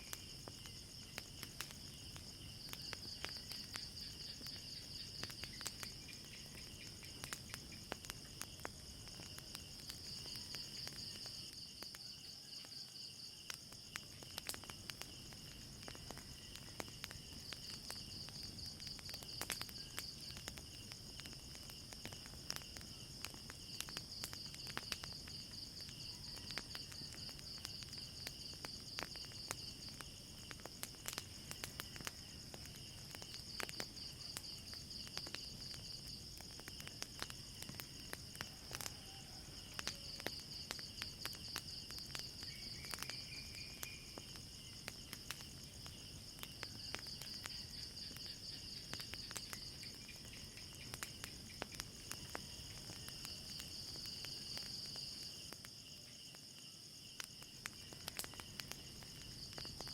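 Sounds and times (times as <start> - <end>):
crickets chirping: 0.0 - 59.9
wood fire crackling: 0.0 - 59.9.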